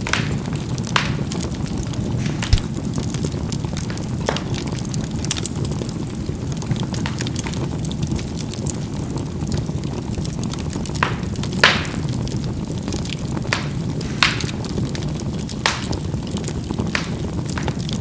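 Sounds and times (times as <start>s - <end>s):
charcoal popping: 0.0s - 18.0s
fire rumbling: 0.0s - 18.0s.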